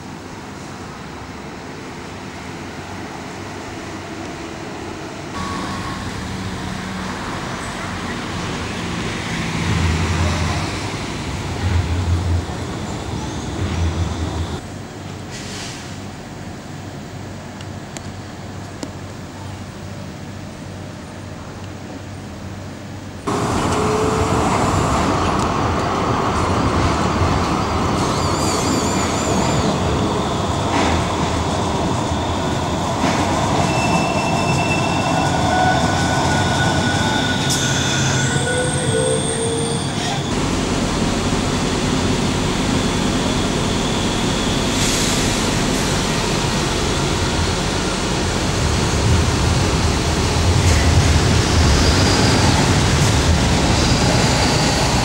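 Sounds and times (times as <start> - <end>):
tram rumbling along track: 0.0 - 55.0.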